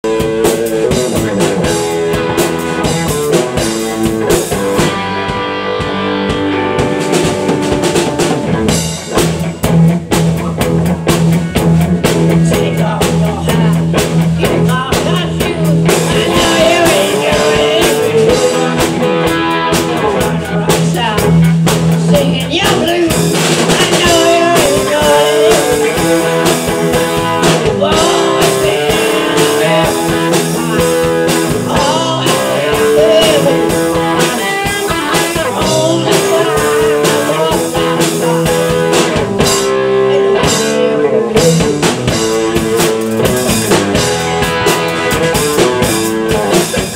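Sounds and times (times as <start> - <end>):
drum kit steady beat: 0.0 - 46.9
electric guitar: 0.0 - 46.9
rock band playing: 0.0 - 46.9.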